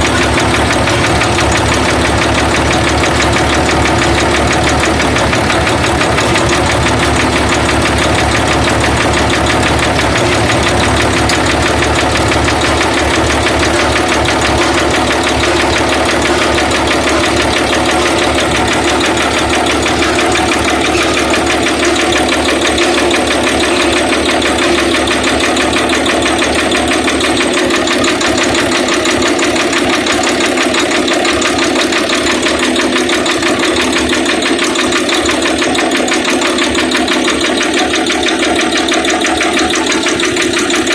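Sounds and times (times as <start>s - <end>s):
diesel generator engine running: 0.0s - 40.9s.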